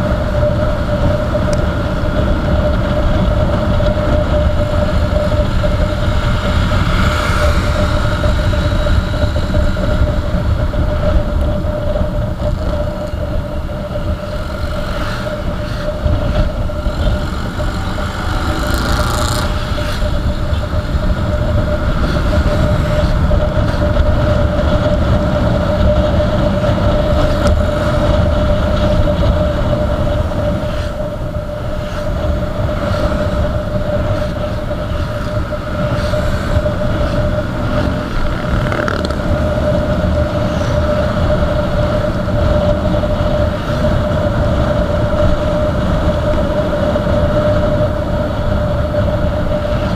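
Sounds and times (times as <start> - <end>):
motorcycle engine cruising: 0.0 - 49.9
road and wind rumble: 0.0 - 49.9.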